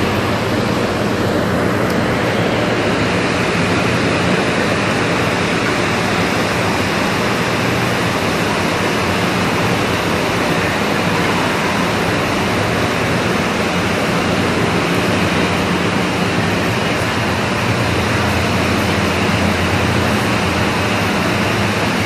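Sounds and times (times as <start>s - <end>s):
low machinery hum: 0.0s - 22.0s
ventilation fans rushing: 0.0s - 22.0s.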